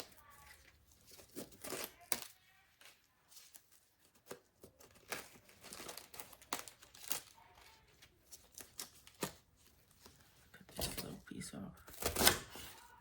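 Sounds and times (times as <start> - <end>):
lettuce crinkling and rustling: 0.0 - 13.0.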